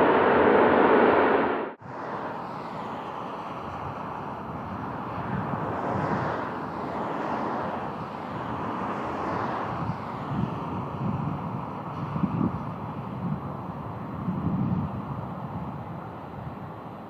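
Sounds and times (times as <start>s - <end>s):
passing plane engine: 0.0s - 17.0s
wind buffeting microphone: 1.8s - 17.0s.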